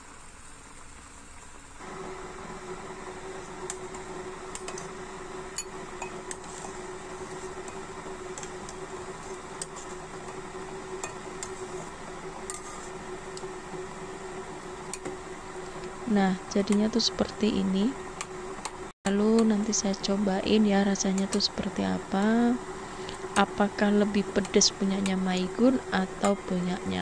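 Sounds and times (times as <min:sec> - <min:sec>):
steady hum: 0:01.8 - 0:27.0.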